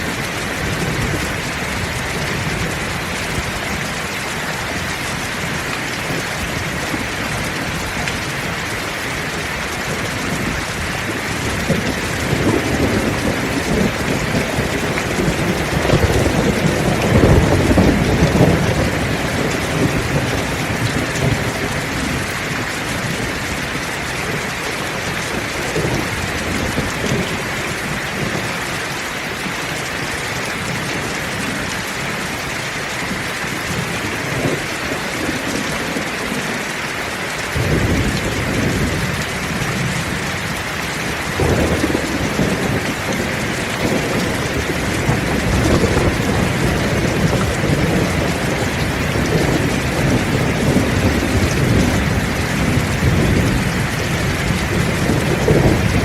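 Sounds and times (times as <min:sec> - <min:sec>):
low thunder rumbling: 0:00.0 - 0:28.5, 0:37.5 - 0:56.0
heavy rain falling: 0:00.0 - 0:56.0.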